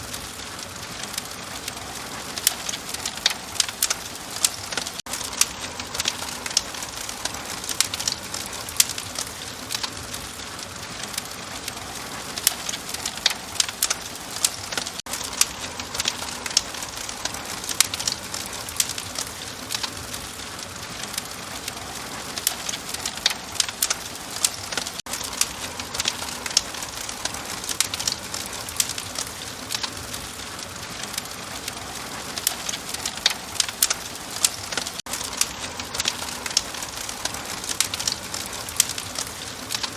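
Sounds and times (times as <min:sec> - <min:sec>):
soft hiss of fire: 0:00.0 - 0:39.9
wood fire pops and snaps: 0:00.0 - 0:39.9.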